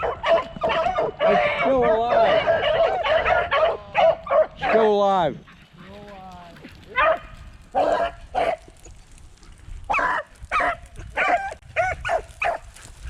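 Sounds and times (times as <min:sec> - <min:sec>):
beagles yelping and baying: 0:00.0 - 0:09.0, 0:09.9 - 0:13.0.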